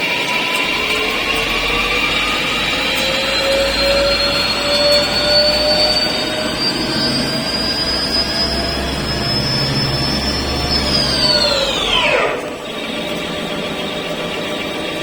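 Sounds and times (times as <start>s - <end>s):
machining noise: 0.0s - 15.0s
spindle drive whine: 0.0s - 15.0s.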